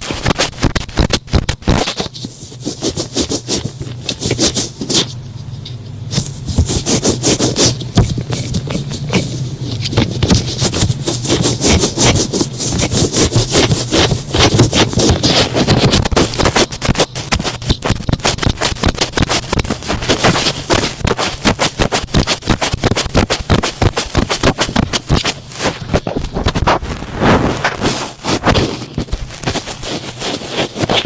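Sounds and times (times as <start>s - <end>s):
cotton swabs rubbing in ear: 0.0s - 31.0s.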